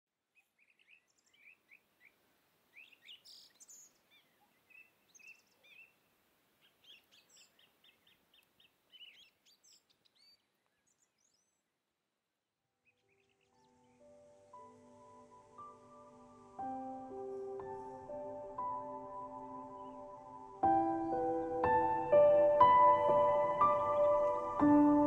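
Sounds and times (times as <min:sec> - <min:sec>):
small birds chirping: 0:00.3 - 0:11.9, 0:12.7 - 0:16.2, 0:17.2 - 0:25.0.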